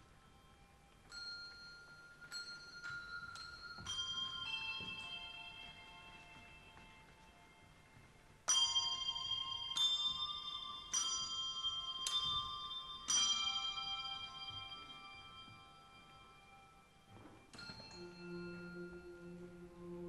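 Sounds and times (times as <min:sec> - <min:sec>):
bell-like tuned percussion melody: 0:00.0 - 0:20.0.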